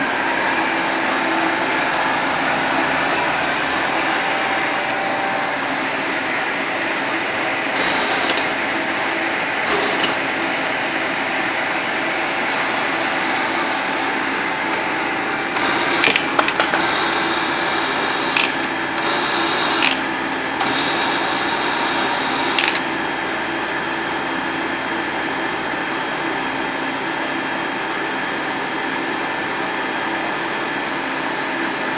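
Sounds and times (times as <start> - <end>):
lathe humming: 0.0 - 31.4.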